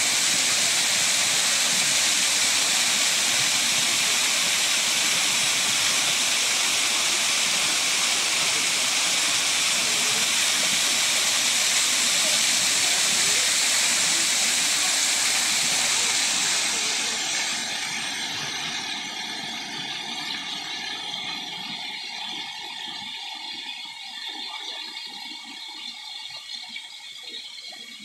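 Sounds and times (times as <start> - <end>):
waterfall rushing into pool: 0.0 - 28.0.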